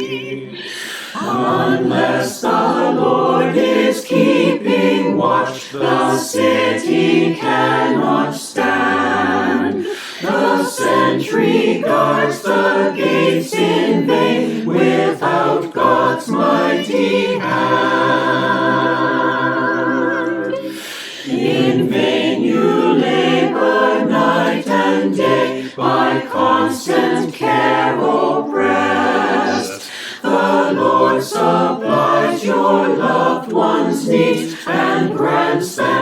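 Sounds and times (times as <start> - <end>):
choir singing a hymn: 0.0 - 36.0.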